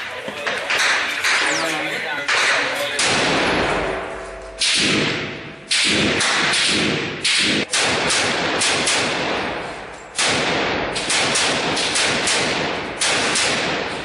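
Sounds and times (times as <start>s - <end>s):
rifle shots echoing in a room: 2.3s - 14.0s.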